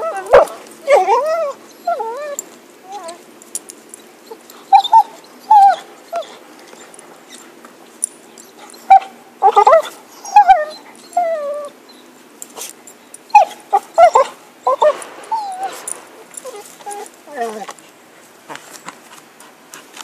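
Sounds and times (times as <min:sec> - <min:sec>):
dog whining and yipping: 0:00.0 - 0:03.3, 0:03.9 - 0:07.5, 0:08.4 - 0:17.8.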